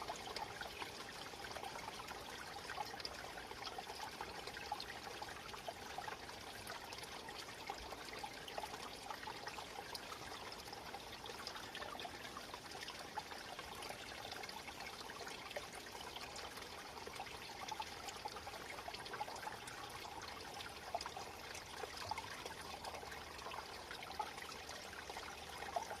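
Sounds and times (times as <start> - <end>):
stream babbling over stones: 0.0 - 26.0.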